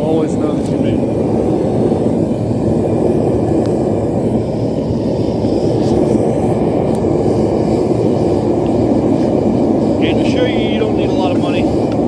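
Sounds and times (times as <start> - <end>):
gas forge burner roaring: 0.0 - 12.0.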